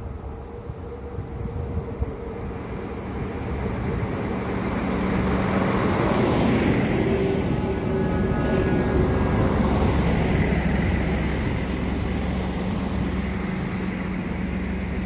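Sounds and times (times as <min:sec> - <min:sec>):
diesel railcar engine: 0:00.0 - 0:15.0
train wheels on rails: 0:00.0 - 0:15.0.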